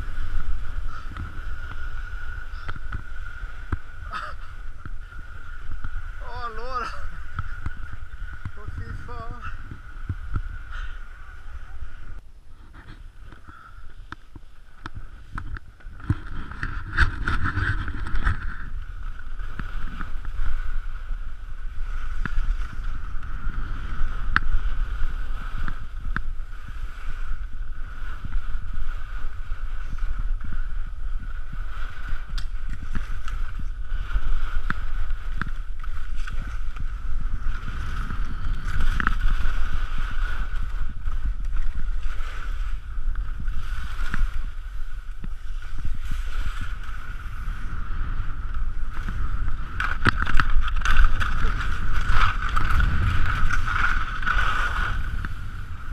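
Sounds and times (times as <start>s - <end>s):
skis scraping over snow: 0.0s - 55.9s
wind buffeting microphone: 0.0s - 55.9s.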